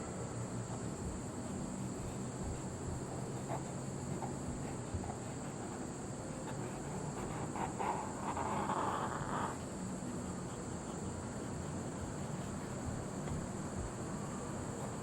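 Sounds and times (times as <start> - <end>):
steady hiss: 0.0 - 15.0
pencil scratching on surface: 1.1 - 13.8.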